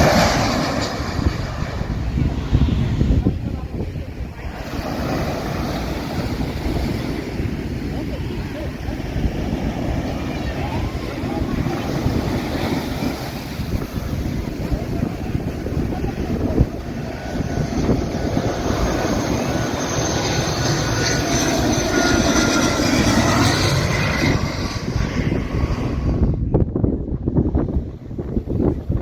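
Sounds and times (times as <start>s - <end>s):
jet airliner engines: 0.0s - 29.0s.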